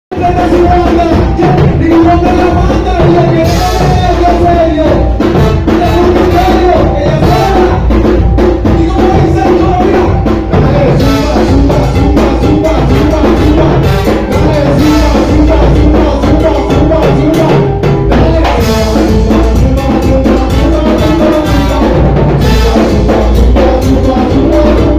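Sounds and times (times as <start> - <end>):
latin dance music: 0.1 - 24.9.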